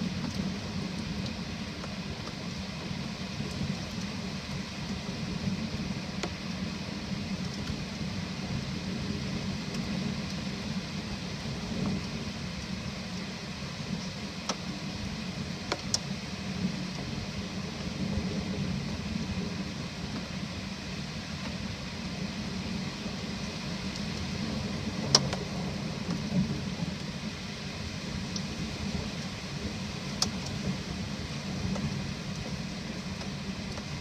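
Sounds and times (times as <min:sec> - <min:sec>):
low thunder rumble: 0:00.0 - 0:34.0
steady rain falling: 0:00.0 - 0:34.0.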